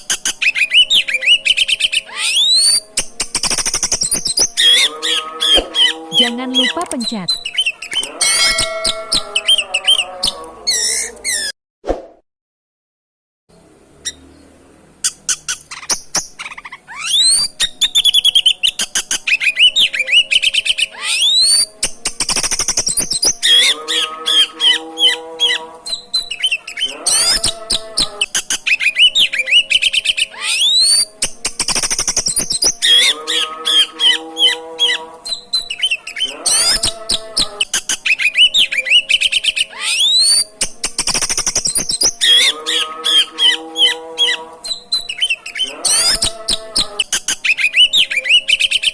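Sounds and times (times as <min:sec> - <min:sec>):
songbird singing whistles and trills: 0:00.0 - 0:11.5, 0:15.0 - 0:48.9.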